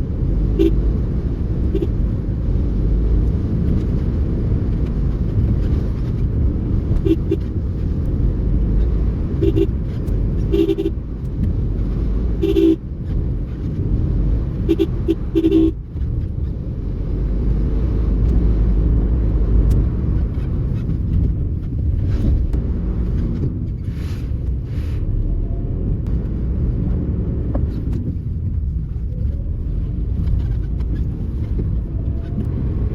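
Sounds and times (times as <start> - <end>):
car engine rumbling: 0.0 - 32.9.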